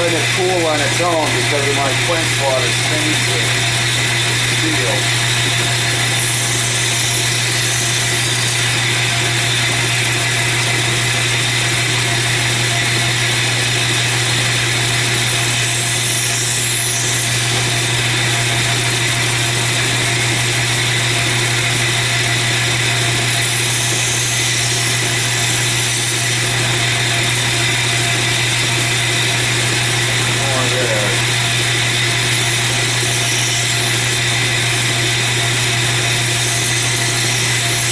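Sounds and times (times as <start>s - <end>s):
belt grinder motor hum: 0.0s - 37.9s.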